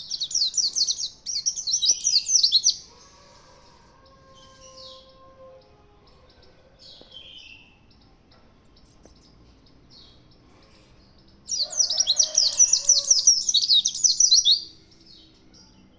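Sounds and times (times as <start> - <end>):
rapid high bird song: 0.0 - 3.0, 4.3 - 15.9
bird chirping softly: 0.0 - 15.9.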